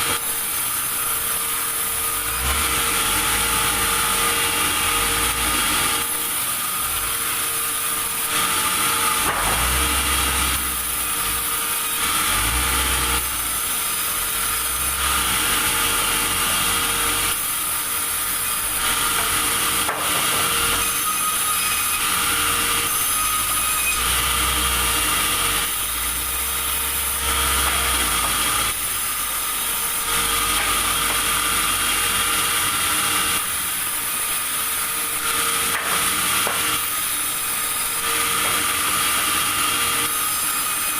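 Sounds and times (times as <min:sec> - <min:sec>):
sawmill saw cutting wood: 0:00.0 - 0:40.9.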